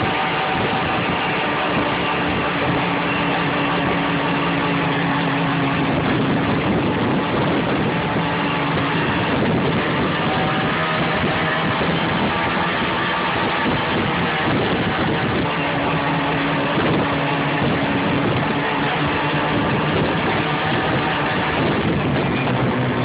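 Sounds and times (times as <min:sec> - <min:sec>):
snowmobile engine drone: 0:00.0 - 0:23.0
track and snow noise: 0:00.0 - 0:23.0.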